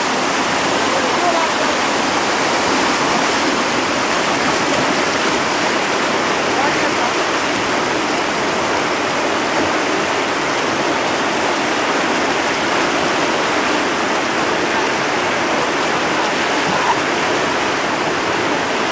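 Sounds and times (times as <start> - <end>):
river rapids rushing: 0.0 - 18.9.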